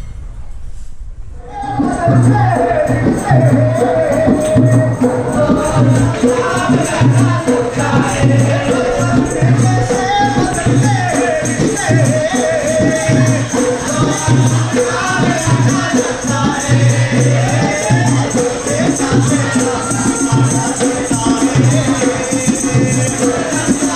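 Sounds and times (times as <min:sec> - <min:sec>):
group singing: 0:01.4 - 0:23.9
barrel drums beating: 0:01.7 - 0:23.9.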